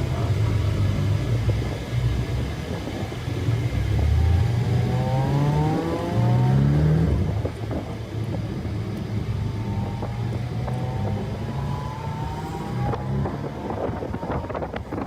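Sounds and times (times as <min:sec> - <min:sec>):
car engine accelerating hard: 0:00.0 - 0:15.0
wind noise on microphone: 0:00.0 - 0:15.0.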